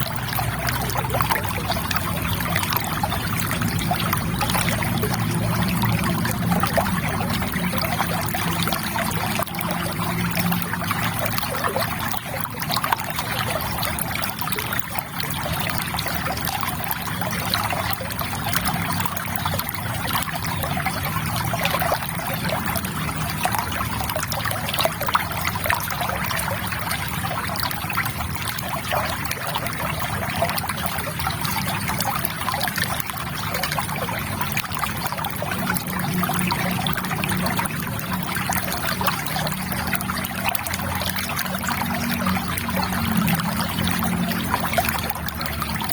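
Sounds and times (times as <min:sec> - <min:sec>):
river water babbling: 0:00.0 - 0:45.9.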